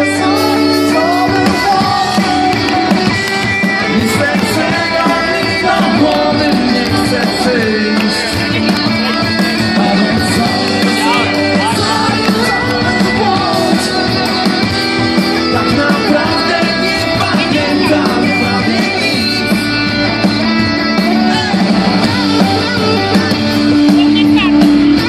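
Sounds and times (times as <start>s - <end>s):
drums: 0.0s - 25.0s
electric guitars: 0.0s - 25.0s
person singing: 0.0s - 25.0s.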